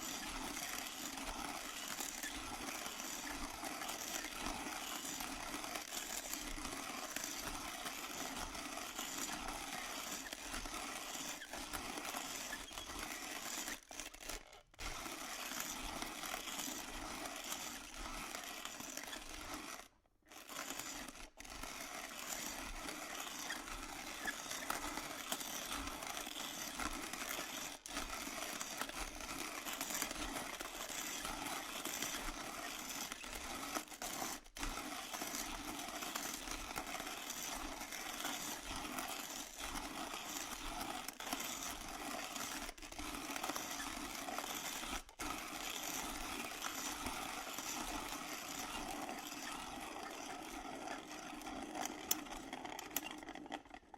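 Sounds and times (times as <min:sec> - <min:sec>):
coffee grinder grinding beans: 0:00.0 - 0:53.9.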